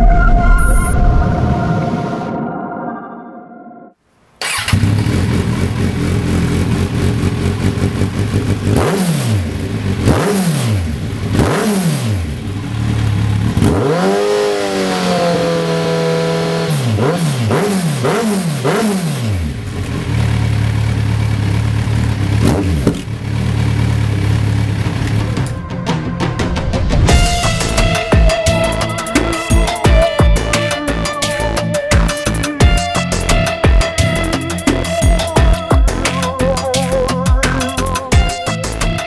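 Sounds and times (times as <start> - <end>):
motorcycle engine idling and revving: 4.4 - 39.0.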